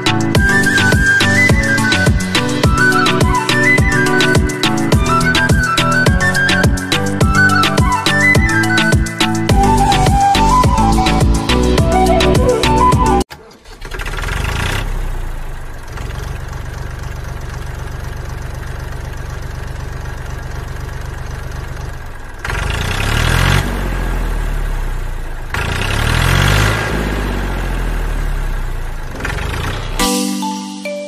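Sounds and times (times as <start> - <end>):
tractor engine idling and revving: 0.0 - 30.1.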